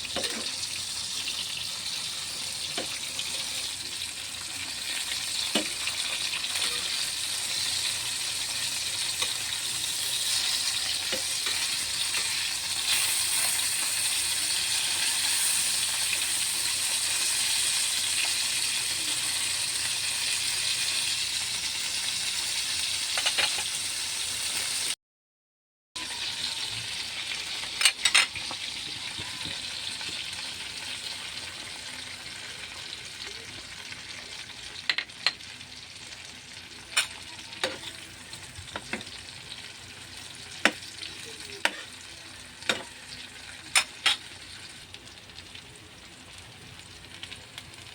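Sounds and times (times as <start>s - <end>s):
chicken sizzling in a pan: 0.0s - 25.0s, 26.0s - 47.9s.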